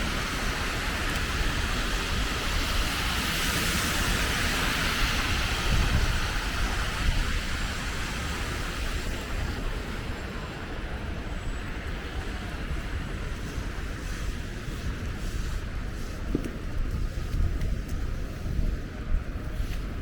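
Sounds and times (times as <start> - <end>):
passing vehicles hissing: 0.0 - 17.3
low traffic rumble: 0.0 - 20.0.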